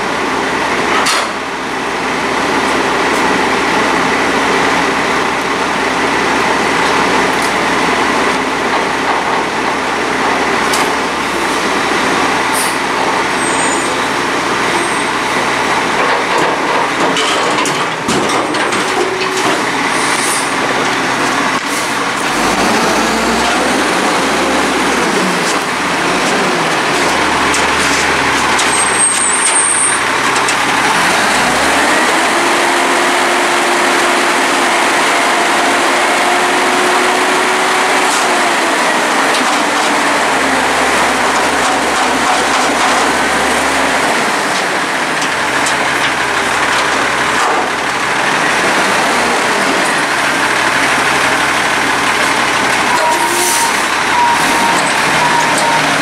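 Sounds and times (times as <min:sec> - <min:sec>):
garbage truck engine running: 0:00.0 - 0:56.0.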